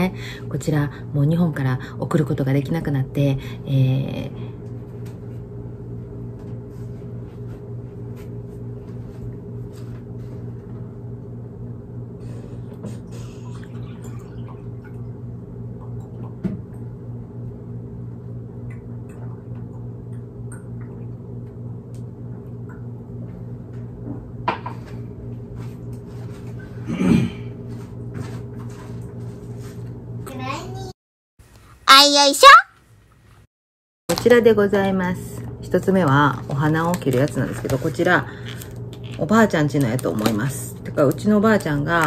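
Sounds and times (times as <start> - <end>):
low mechanical hum: 0.0 - 33.4, 34.1 - 42.0.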